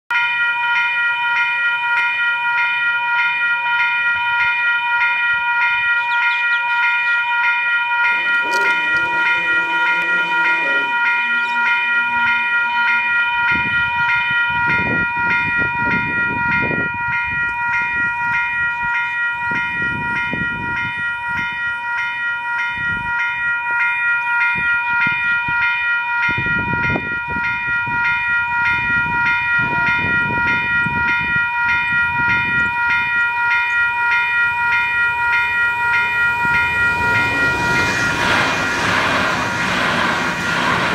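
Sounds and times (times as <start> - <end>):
crossing warning bells ringing: 0.1 - 40.9.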